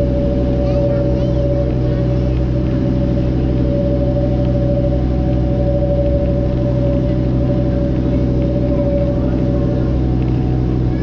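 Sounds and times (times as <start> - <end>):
motorboat engine drone: 0.0 - 11.0.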